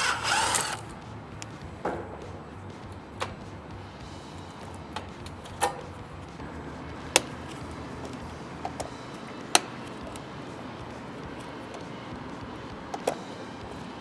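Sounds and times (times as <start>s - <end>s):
hand tools clicking and tapping: 0.0s - 14.0s
steady low hum: 0.0s - 14.0s.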